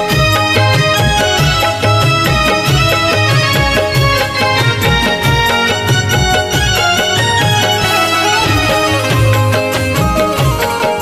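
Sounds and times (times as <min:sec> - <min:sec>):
instrumental music with drumbeat: 0:00.0 - 0:11.0.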